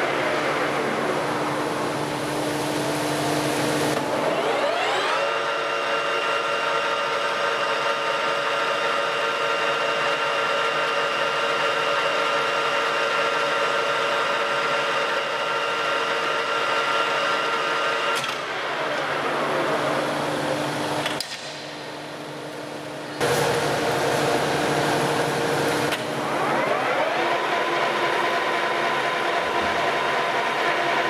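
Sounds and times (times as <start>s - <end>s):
lathe gear whine: 0.0s - 20.9s, 23.2s - 31.0s.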